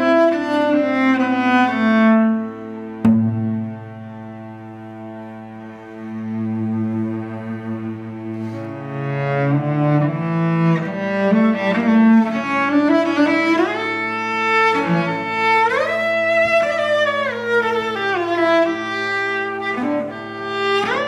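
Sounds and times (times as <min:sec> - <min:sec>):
bowed cello melody: 0:00.0 - 0:21.0.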